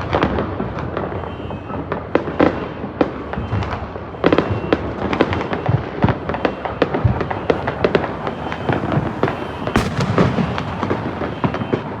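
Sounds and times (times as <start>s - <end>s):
fireworks cracking and popping: 0.0s - 12.0s
loud firework bang: 0.0s - 12.0s.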